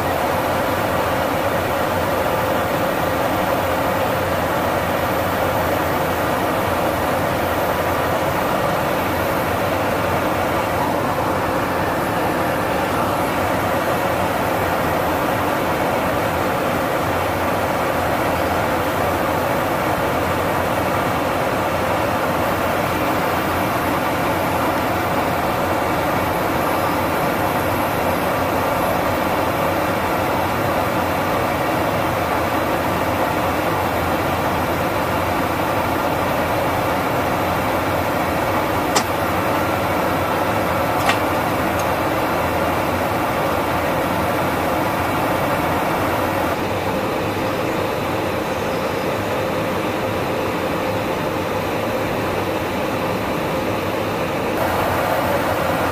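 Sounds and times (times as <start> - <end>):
jet aircraft cabin roar: 0.0 - 55.9.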